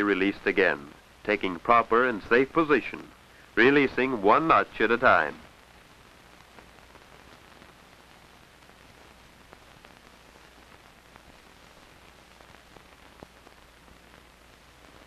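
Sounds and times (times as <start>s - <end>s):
crackles and pops: 0.0s - 15.0s
film soundtrack hiss: 0.0s - 15.0s
low steady hum: 0.0s - 15.0s.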